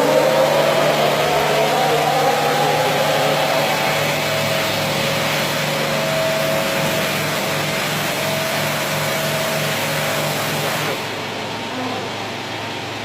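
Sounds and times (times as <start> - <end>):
carpet washer motor humming: 0.0 - 13.0.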